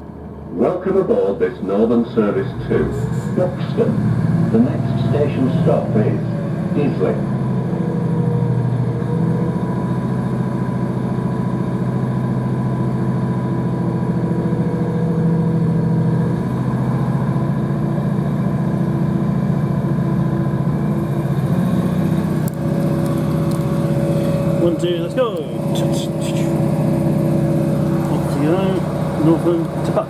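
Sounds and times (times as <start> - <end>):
train diesel engine running: 0.0 - 30.0.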